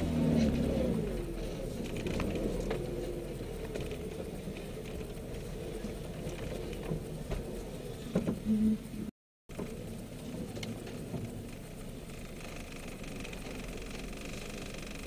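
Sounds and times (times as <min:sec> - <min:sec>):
car engine running at low revs: 0:00.0 - 0:15.0
body and suspension knocks and rattles: 0:00.3 - 0:08.5, 0:09.5 - 0:15.0.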